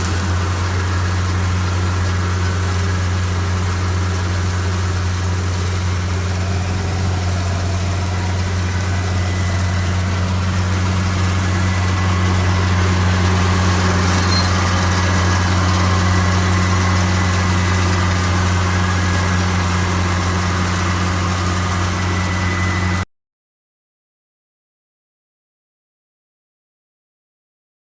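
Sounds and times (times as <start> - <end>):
harvester engine hum: 0.0 - 23.0.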